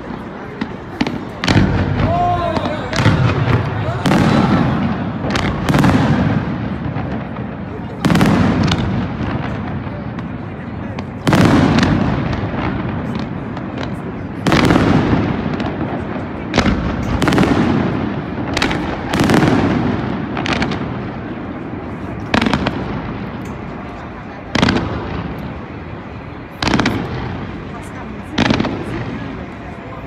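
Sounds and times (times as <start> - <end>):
fireworks booming: 0.0 - 30.0
fireworks popping and crackling: 0.0 - 30.0.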